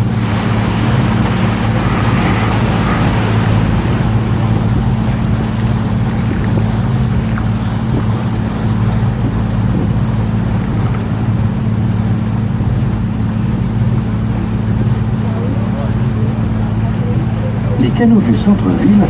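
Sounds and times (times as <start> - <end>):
boat motor humming: 0.0 - 19.0
rushing water and air noise: 0.0 - 19.0.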